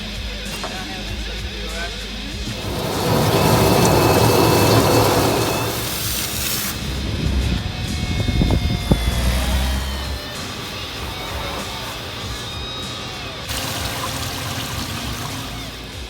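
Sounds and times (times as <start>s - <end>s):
background music: 0.0s - 16.0s
motor rumbling: 0.0s - 16.0s.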